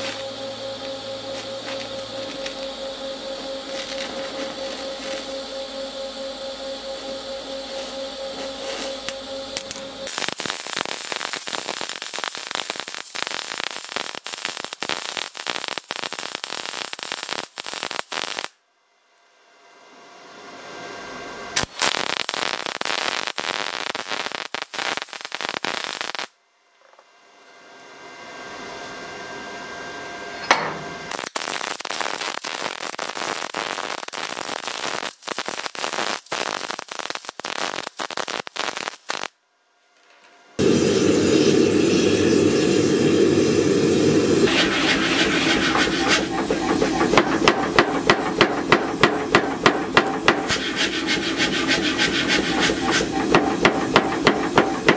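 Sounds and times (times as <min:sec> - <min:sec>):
welder arc crackling: 0:00.0 - 0:18.6, 0:21.6 - 0:26.3, 0:30.6 - 0:39.4, 0:40.2 - 0:54.9.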